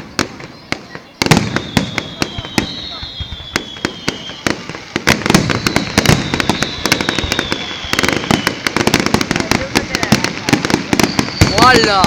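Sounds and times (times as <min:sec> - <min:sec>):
high falling firework whistle: 0:00.0 - 0:09.3, 0:09.9 - 0:12.0
fireworks bangs and crackles: 0:00.0 - 0:12.0.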